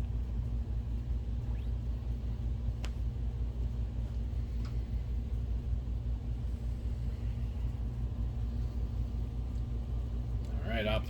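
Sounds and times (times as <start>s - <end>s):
projector cooling fans humming: 0.0s - 11.0s.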